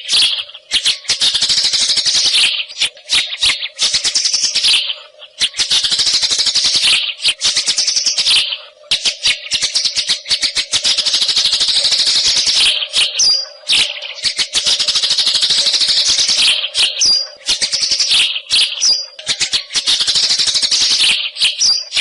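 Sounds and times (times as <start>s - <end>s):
bird singing fast rattling trills: 0.0s - 22.0s.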